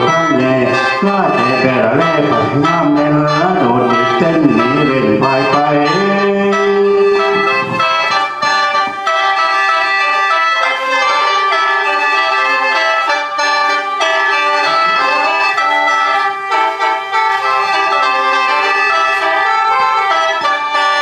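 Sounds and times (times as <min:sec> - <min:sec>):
mouth organ melody with drone: 0:00.0 - 0:21.0.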